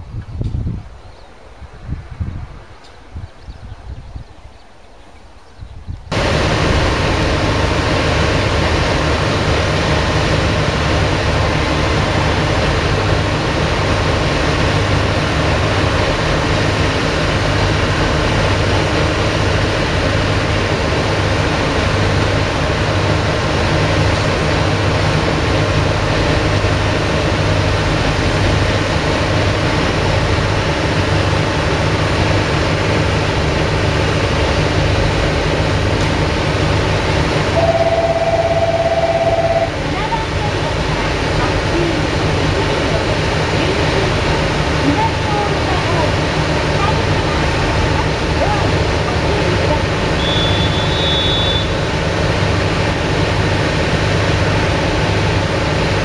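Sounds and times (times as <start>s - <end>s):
diesel railcar engines idling: 6.1s - 56.0s.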